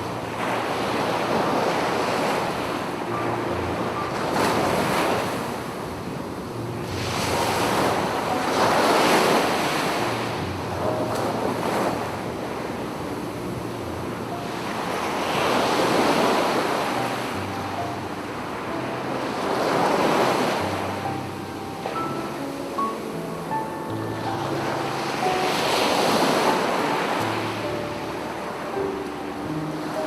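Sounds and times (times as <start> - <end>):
sea waves breaking on a beach: 0.0 - 30.0.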